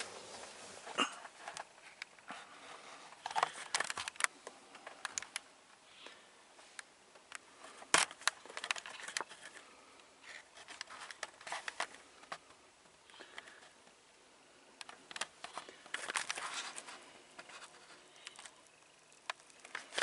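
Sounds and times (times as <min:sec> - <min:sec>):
handling clicks and rustles: 0:00.0 - 0:05.8, 0:06.5 - 0:14.0, 0:14.8 - 0:20.0.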